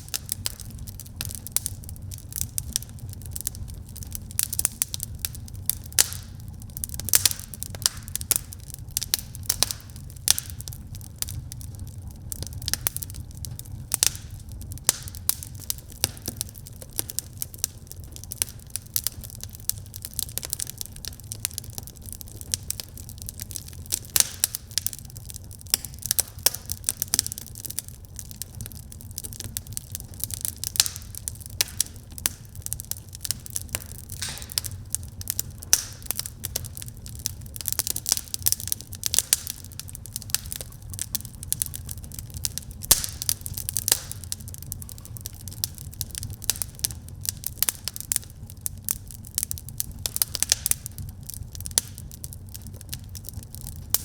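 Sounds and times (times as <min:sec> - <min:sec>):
fire crackling and popping: 0:00.0 - 0:54.0
low rumble of flame: 0:00.0 - 0:54.0.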